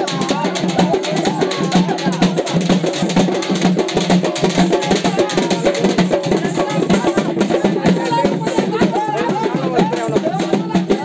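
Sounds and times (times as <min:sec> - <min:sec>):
drum band playing fast rhythm: 0:00.0 - 0:11.0.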